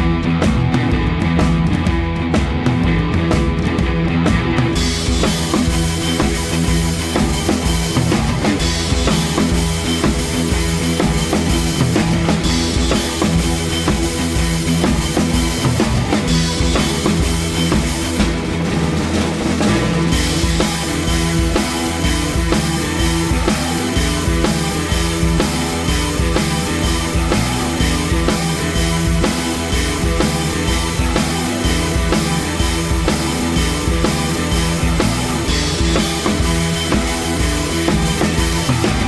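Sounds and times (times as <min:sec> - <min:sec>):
fast rock music with drums: 0:00.0 - 0:39.0.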